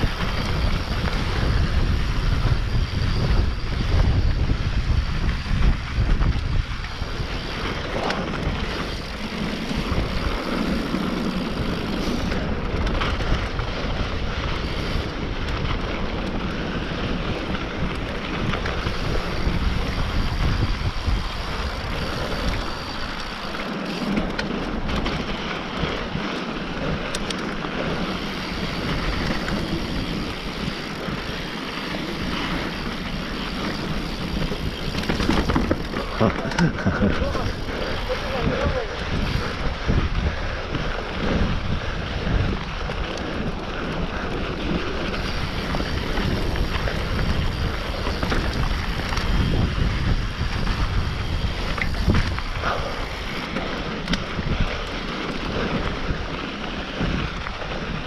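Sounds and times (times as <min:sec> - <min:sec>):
bike rattle clicks: 0:00.0 - 0:58.0
bike tyres rolling on dirt: 0:00.0 - 0:58.0
wind on microphone: 0:00.0 - 0:58.0.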